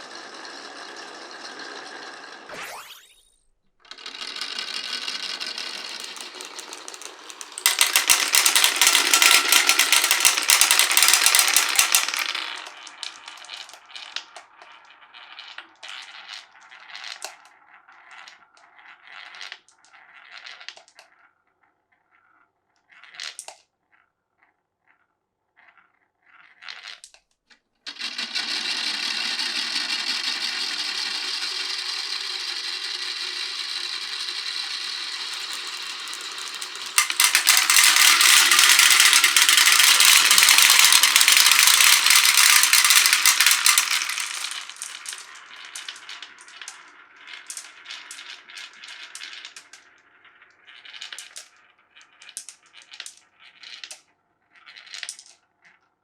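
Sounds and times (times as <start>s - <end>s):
glass marbles rolling on tracks: 0.0s - 3.3s, 3.9s - 21.2s, 27.9s - 55.3s.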